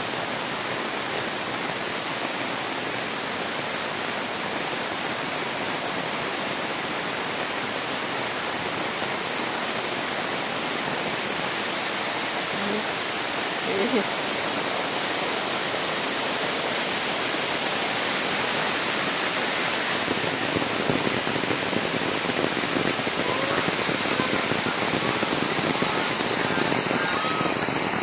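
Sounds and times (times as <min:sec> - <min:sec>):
rain pouring down: 0:00.0 - 0:28.0.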